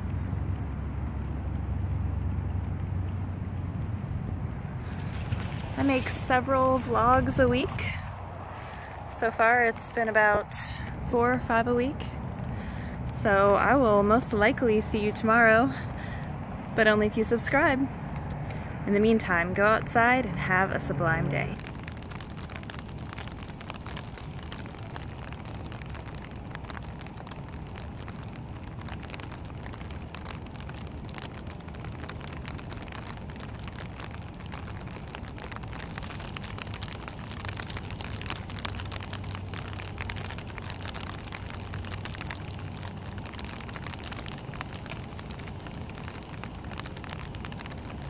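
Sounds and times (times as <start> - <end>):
low hum: 0.0 - 48.0
rain patter: 0.0 - 48.0.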